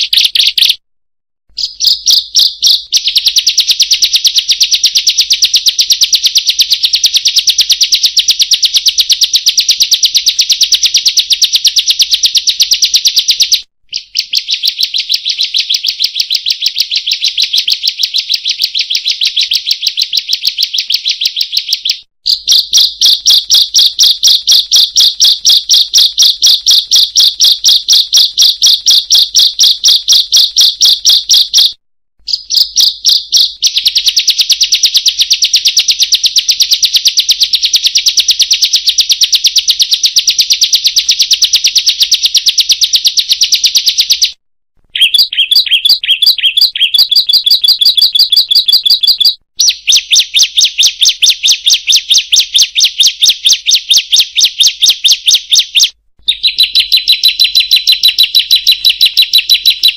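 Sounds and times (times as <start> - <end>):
bird chirping rapidly: 0.0 - 0.8, 1.5 - 59.9.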